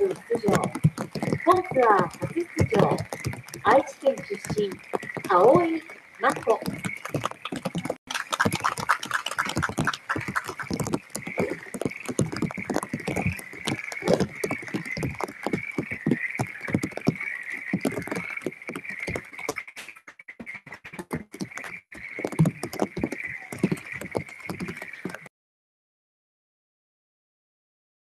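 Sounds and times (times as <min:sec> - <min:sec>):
frogs calling: 0:00.0 - 0:25.3
rain pattering: 0:00.0 - 0:25.3.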